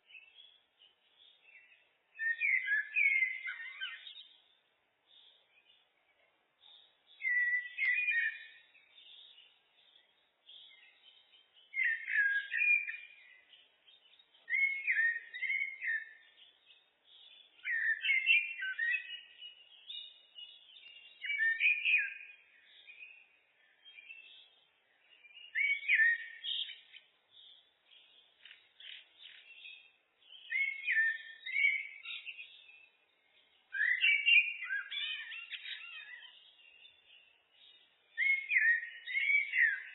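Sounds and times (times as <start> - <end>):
blackbird singing fluty phrases: 0.0 - 39.9
faint bird twittering: 0.0 - 39.9.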